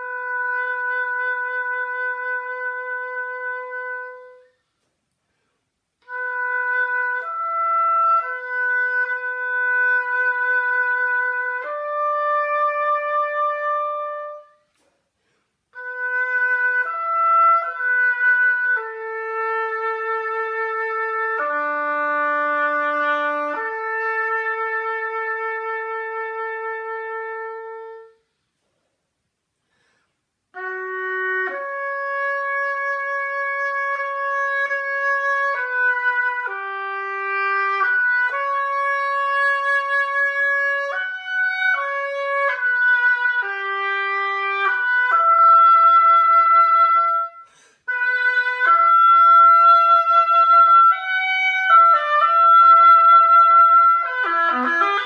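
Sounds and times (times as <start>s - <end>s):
solo oboe melody: 0.0s - 28.5s, 30.5s - 55.0s.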